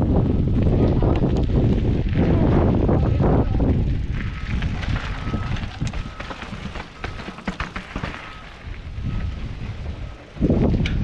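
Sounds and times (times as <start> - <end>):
bike rattling and clicking: 0.0 - 11.0
wind buffeting microphone: 0.0 - 11.0
tyres crunching over gravel: 0.1 - 10.8.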